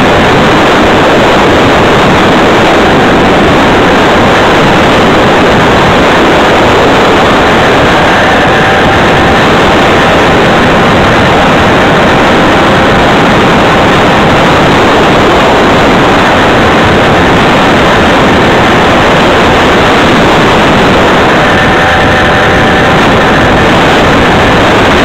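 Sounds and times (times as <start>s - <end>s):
road traffic: 0.0s - 25.0s
wind buffeting microphone: 0.0s - 25.0s.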